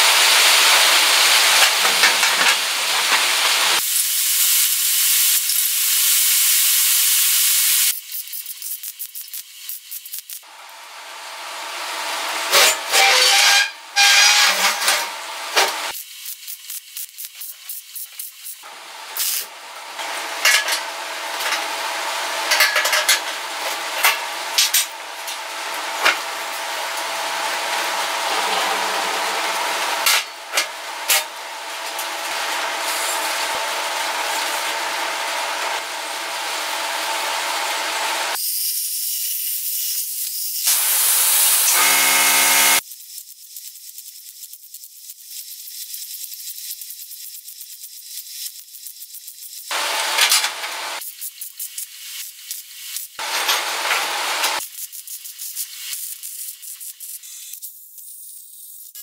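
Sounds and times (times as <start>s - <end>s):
welding arc crackling and hissing: 0.0s - 59.0s.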